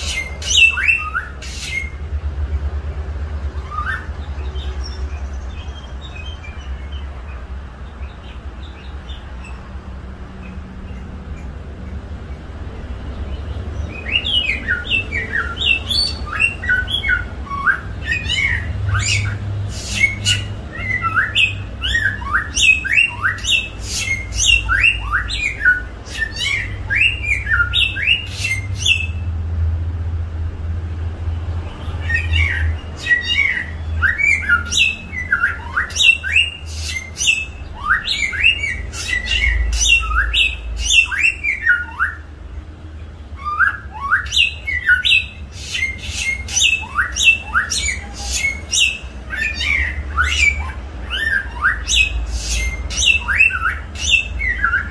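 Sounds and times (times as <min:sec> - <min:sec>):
songbird singing: 0:00.0 - 0:29.6, 0:30.9 - 0:54.9.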